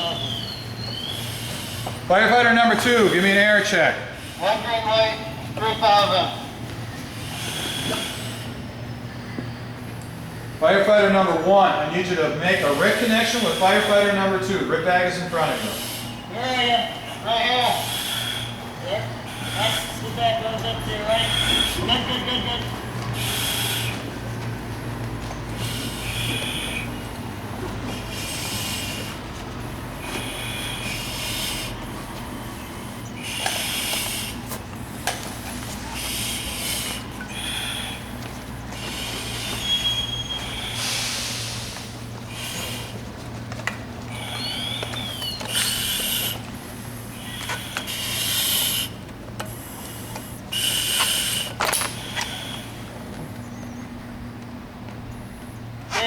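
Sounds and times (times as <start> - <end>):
breathing through regulator: 0.0 - 9.4, 12.1 - 53.9
steady low hum: 0.0 - 56.0.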